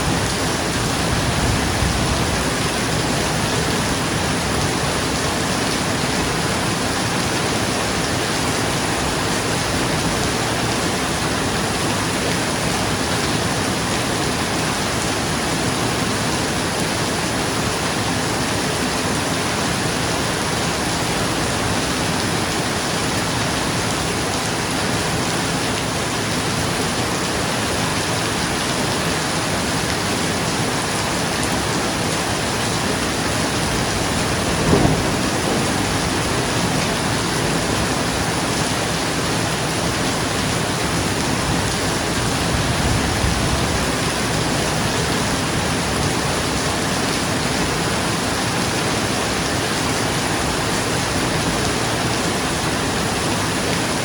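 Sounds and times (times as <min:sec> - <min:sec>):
rain falling on a roof: 0:00.0 - 0:54.0.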